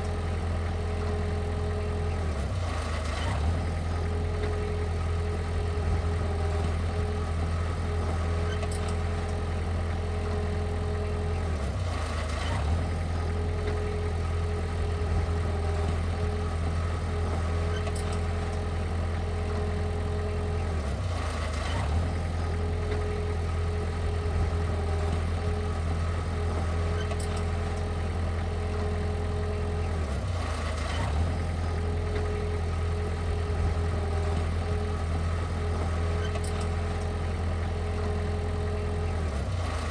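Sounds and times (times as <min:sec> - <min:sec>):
construction machine engine running: 0:00.0 - 0:39.9.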